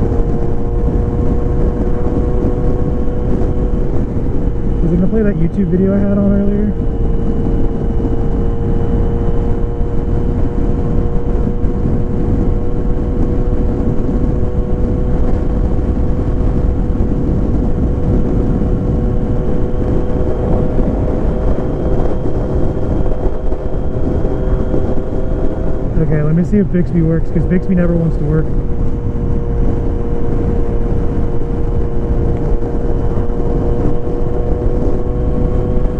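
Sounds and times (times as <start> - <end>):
motorcycle engine cruising: 0.0 - 35.9
wind rumble: 0.0 - 35.9.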